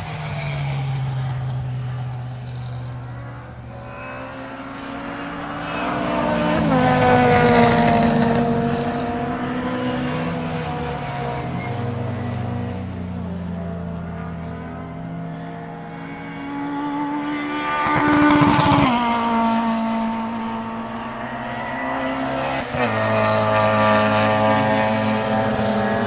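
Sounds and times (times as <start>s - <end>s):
race car engines at high revs: 0.0s - 26.0s
race car passing by: 0.0s - 26.0s.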